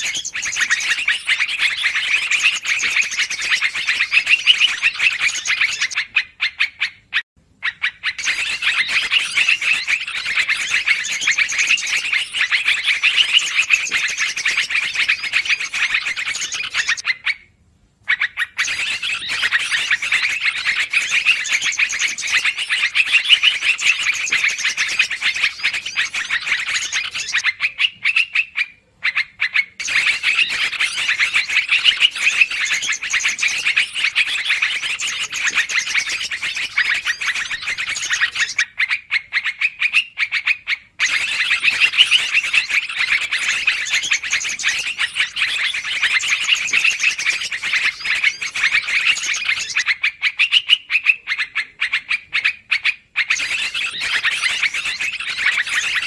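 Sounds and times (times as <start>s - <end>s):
bird rapid chattering calls: 0.0s - 17.4s, 18.1s - 56.0s.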